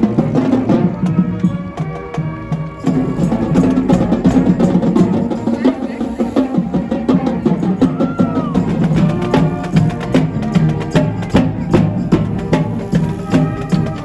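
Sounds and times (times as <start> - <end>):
brass band playing: 0.0 - 14.0
steady drumbeat: 0.0 - 14.0.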